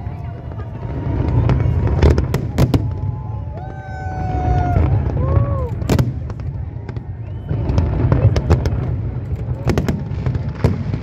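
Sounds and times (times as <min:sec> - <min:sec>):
fireworks cracks and bangs: 0:00.0 - 0:11.0
fireworks rumble: 0:00.0 - 0:11.0.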